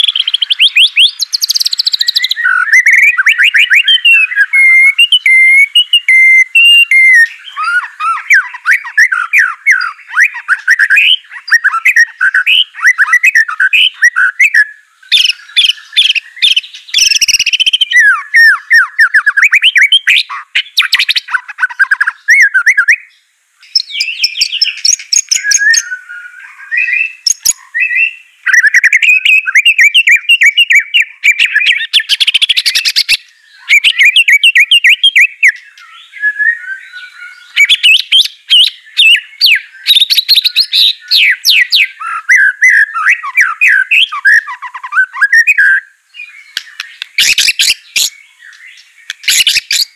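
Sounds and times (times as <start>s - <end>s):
bird singing chirps and trills: 0.0s - 49.9s.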